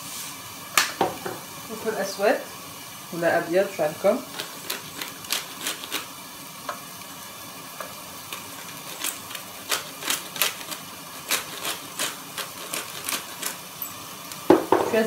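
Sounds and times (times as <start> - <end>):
meat frying in oil: 0.0 - 15.0.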